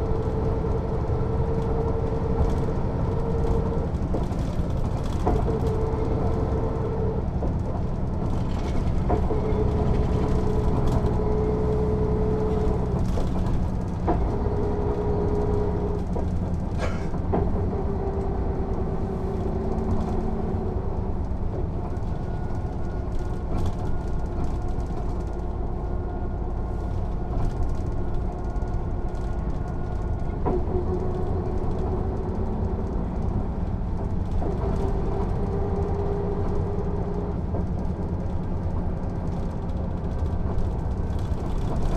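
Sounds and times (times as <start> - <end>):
bus diesel engine rumble: 0.0 - 41.9.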